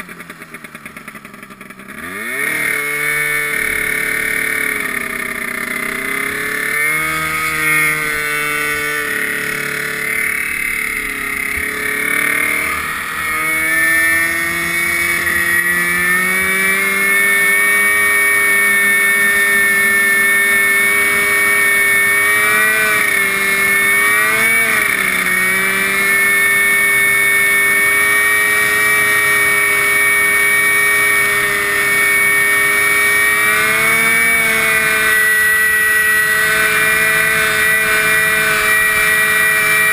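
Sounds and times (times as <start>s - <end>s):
small engine running under load: 0.0s - 39.9s.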